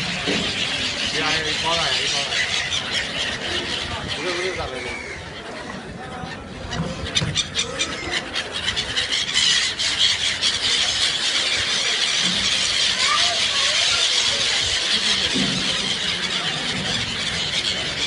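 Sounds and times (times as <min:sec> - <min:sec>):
birds squealing and screeching: 0:00.0 - 0:18.0.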